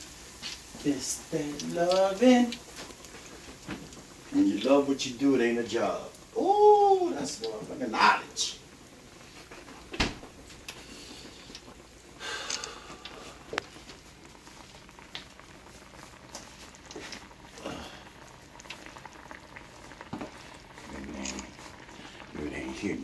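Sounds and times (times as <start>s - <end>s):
sauce bubbling in a skillet: 0.0s - 23.0s.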